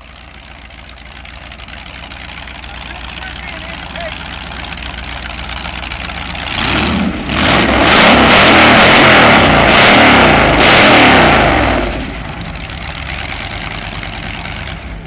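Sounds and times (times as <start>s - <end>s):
car engine revving: 1.5s - 15.0s.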